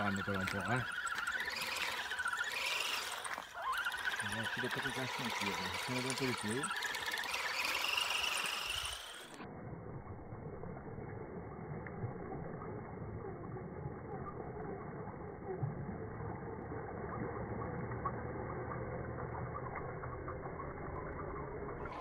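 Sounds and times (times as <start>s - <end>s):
wheels churning and splashing water: 0.0s - 9.4s, 10.0s - 22.0s.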